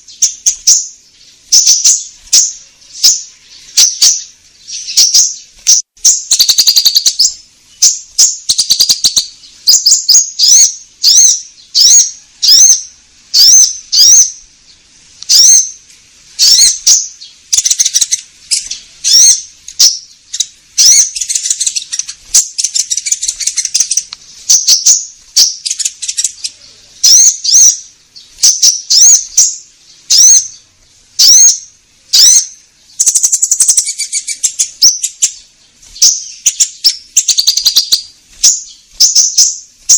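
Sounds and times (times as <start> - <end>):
bird rattling trills: 0.0 - 14.5, 15.3 - 39.9
songbird sharp rising chirps: 0.0 - 39.9.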